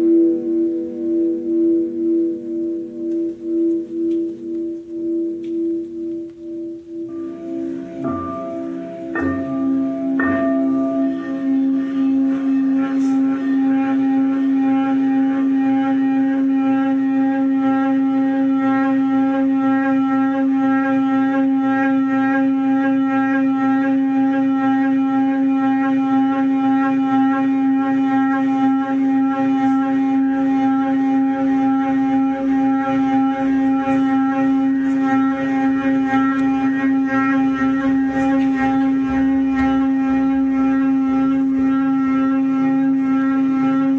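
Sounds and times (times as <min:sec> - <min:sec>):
struck note: 0:00.0 - 0:43.9
sustained musical drone: 0:00.0 - 0:43.9.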